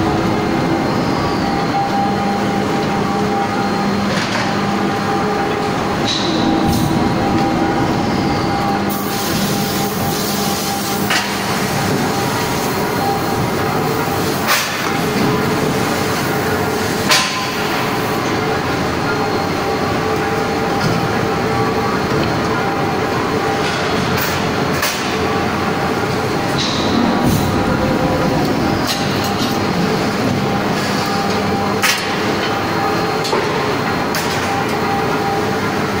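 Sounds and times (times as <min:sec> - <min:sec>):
machinery din with hum: 0:00.0 - 0:36.0.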